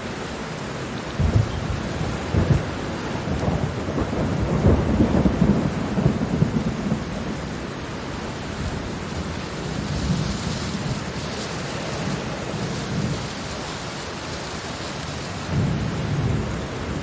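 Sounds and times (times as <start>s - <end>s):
heavy steady rain: 0.0s - 17.0s
thunder rumbling: 1.1s - 17.0s.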